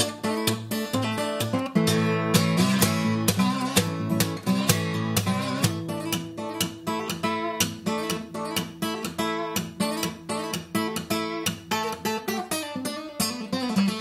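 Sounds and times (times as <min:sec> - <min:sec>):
acoustic blues guitar: 0:00.0 - 0:14.0.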